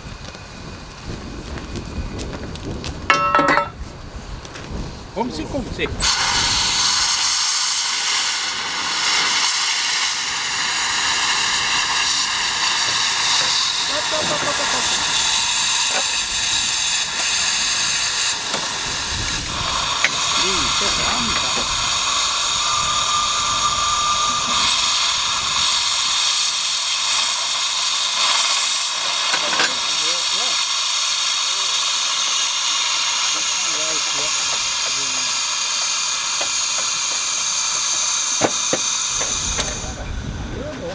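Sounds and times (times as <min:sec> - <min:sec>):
steam hissing from locomotive: 0:00.0 - 0:40.9.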